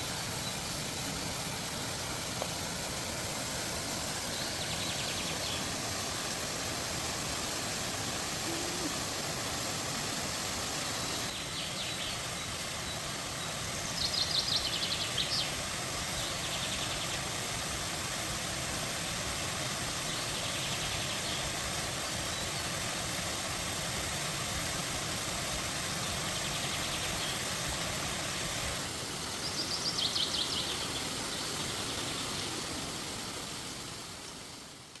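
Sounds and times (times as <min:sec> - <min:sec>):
waterfall and stream rushing: 0:00.0 - 0:35.0.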